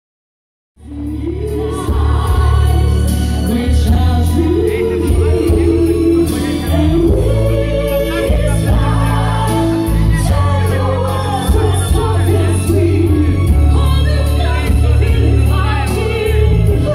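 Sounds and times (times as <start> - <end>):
pop song with female singers: 0.8 - 16.9.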